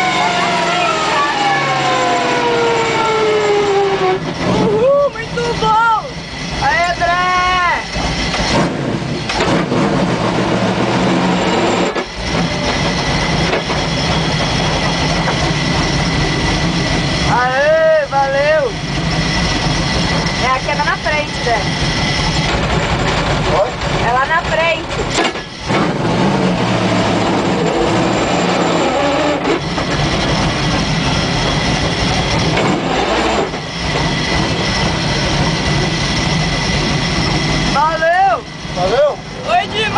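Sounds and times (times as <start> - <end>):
car engine running at low revs: 0.0 - 39.9.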